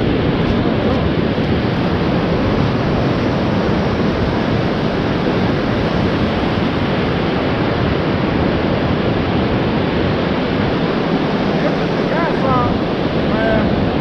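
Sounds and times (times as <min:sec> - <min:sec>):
surf washing up beach: 0:00.0 - 0:14.0
wind on microphone: 0:00.0 - 0:14.0.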